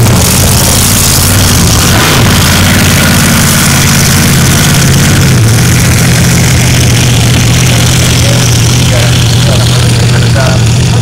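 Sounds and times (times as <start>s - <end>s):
powerboat engine droning: 0.0s - 11.0s.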